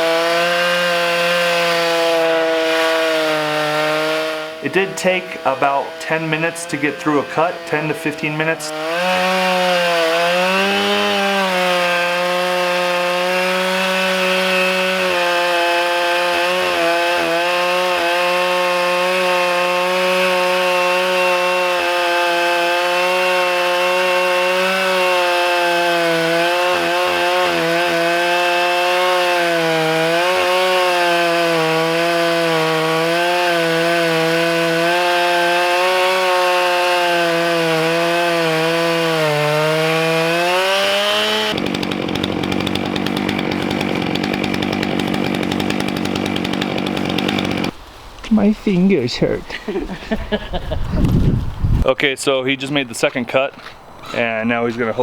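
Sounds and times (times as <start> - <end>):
chainsaw ripping through log: 0.0 - 47.8.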